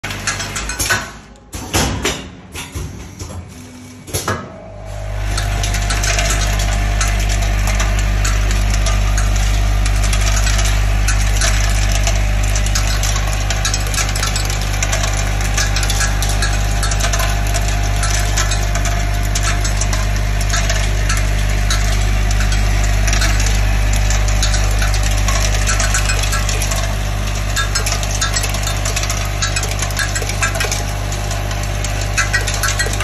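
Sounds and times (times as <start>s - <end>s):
bowl feeder humming: 4.6s - 33.0s.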